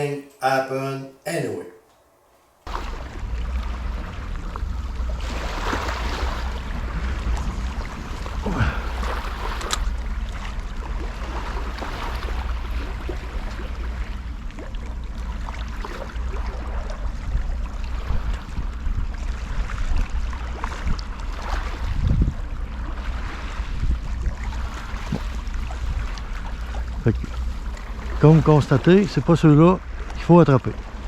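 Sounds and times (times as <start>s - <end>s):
water washing and splashing: 2.6s - 31.0s
wind rumble on microphone: 2.7s - 31.0s.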